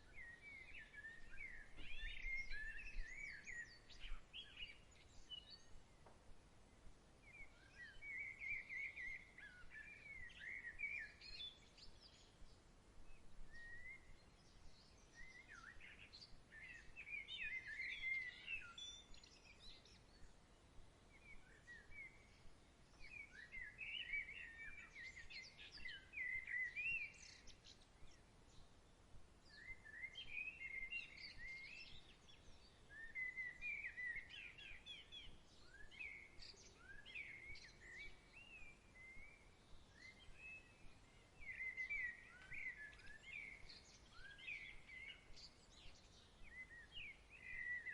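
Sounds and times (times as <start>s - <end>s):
faint background hiss: 0.0s - 47.9s
songbirds chirping: 0.0s - 47.9s.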